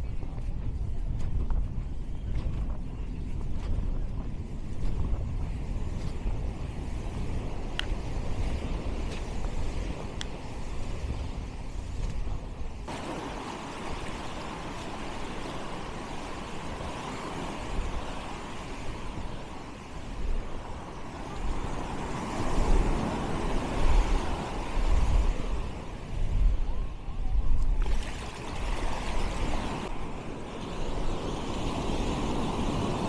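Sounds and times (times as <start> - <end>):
wind buffeting microphone: 0.0 - 33.0
surf washing onto beach: 4.4 - 26.7, 27.6 - 33.0.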